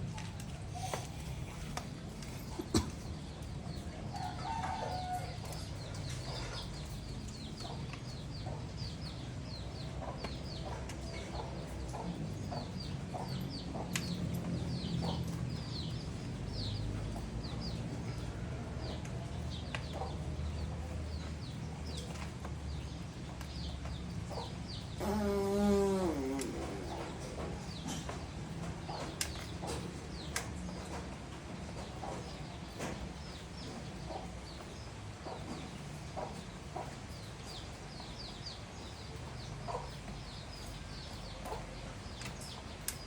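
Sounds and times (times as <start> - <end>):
pigeons chirping: 0.7 - 43.0.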